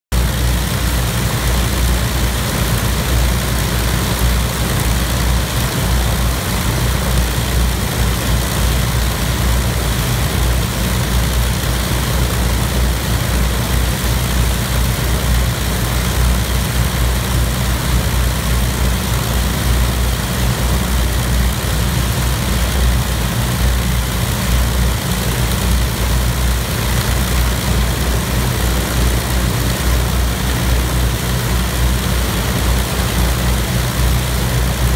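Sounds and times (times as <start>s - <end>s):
aircraft propeller engines idling: 0.1s - 34.9s.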